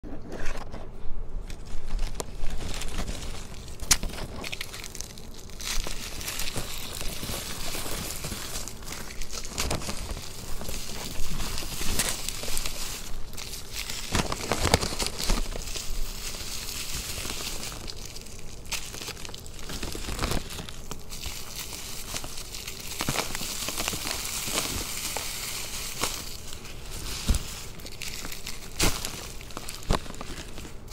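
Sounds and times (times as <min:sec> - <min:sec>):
sharp snaps of chunks: 0:01.5 - 0:26.6, 0:27.2 - 0:30.9
chalk block crunching by hand: 0:01.5 - 0:30.9.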